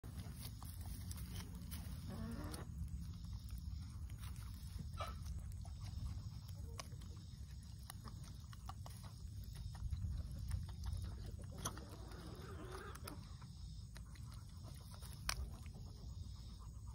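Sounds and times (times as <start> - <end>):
turkeys pecking clicks: 0.4 - 15.9.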